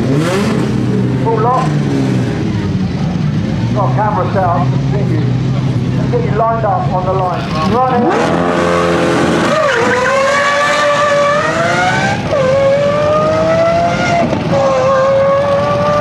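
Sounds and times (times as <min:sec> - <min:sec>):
car engine revving hard: 0:00.0 - 0:06.2, 0:07.3 - 0:16.0.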